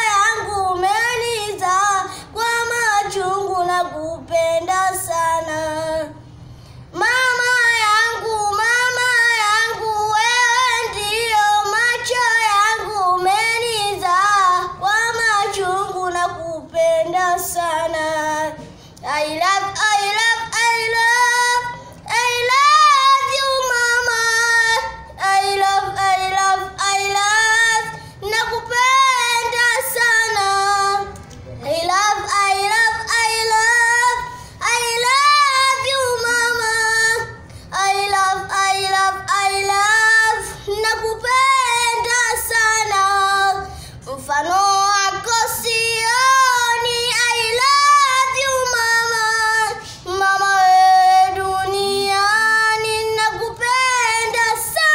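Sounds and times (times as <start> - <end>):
boy singing unaccompanied: 0.0 - 6.2, 6.9 - 54.9.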